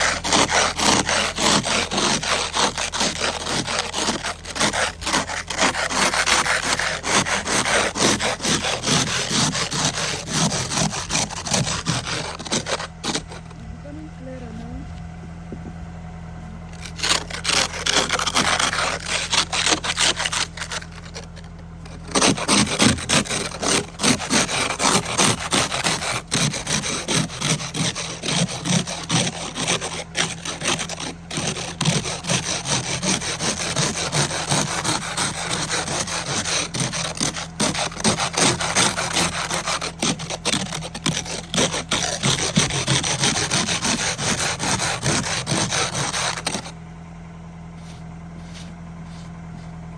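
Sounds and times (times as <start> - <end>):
ice scraper scraping windshield: 0.0 - 14.7, 16.6 - 46.8, 47.7 - 49.9.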